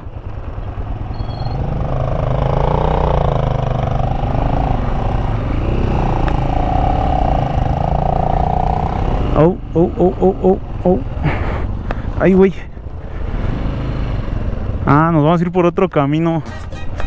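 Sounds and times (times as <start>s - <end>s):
motorcycle engine revving: 0.0s - 12.2s, 12.8s - 15.2s.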